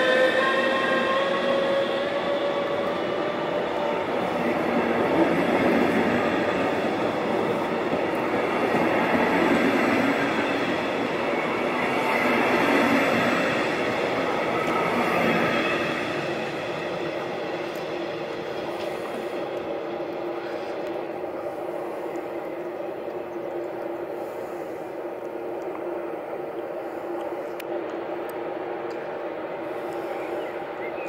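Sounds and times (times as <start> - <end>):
train rail rumble: 0.0 - 31.0.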